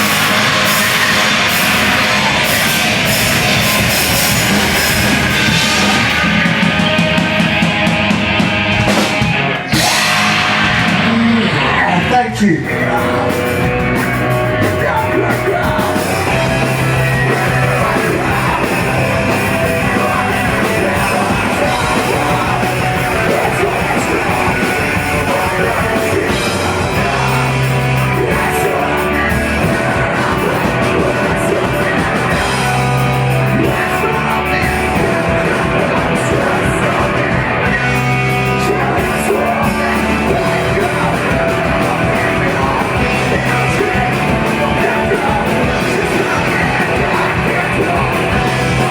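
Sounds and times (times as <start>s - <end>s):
band playing loud: 0.0s - 48.9s
drums: 0.0s - 48.9s
yelled vocals: 0.0s - 48.9s.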